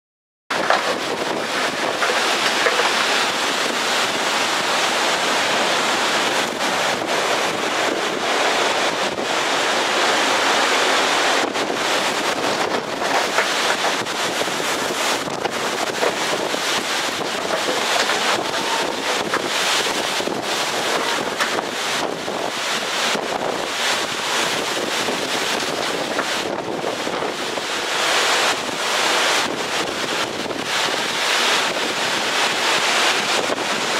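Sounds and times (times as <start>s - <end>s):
strong wind gusts: 0.5s - 33.9s.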